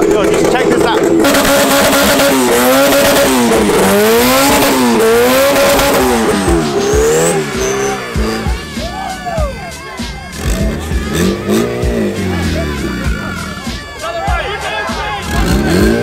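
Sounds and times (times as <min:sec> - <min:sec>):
car engine revving hard: 0:00.0 - 0:09.0, 0:10.2 - 0:14.0, 0:15.2 - 0:16.0.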